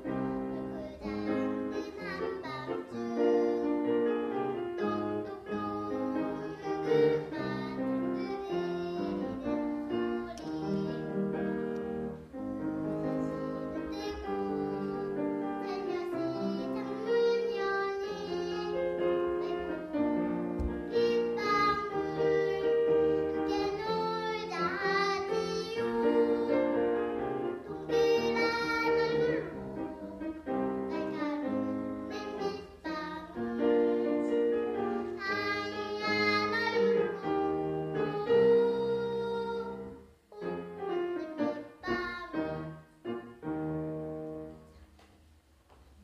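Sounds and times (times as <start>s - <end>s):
child singing: 0.0s - 11.5s, 12.4s - 42.8s
piano accompaniment: 0.0s - 46.0s.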